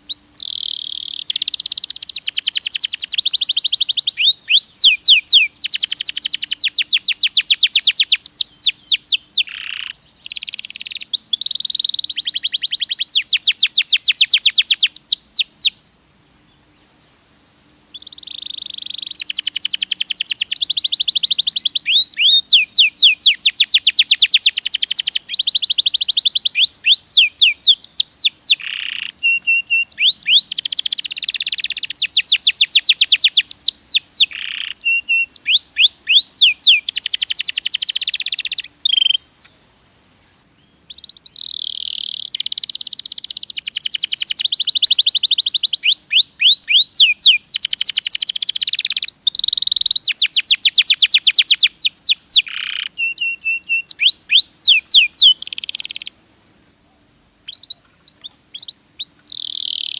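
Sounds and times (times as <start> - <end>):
canary singing trills: 0.0 - 15.8, 17.8 - 39.6, 40.6 - 56.2, 57.5 - 59.9.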